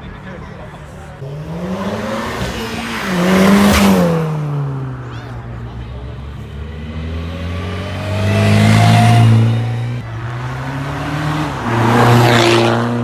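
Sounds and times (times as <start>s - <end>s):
car engine accelerating hard: 1.2s - 5.1s, 6.2s - 13.0s.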